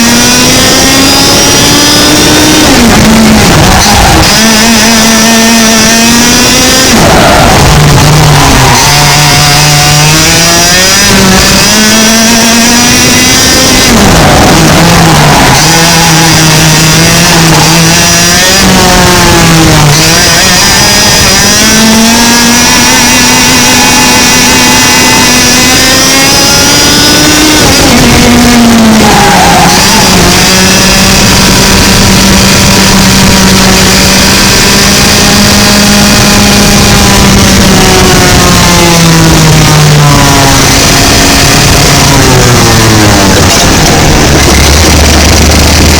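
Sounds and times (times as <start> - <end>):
two-stroke kart engine at full throttle: 0.0 - 45.9.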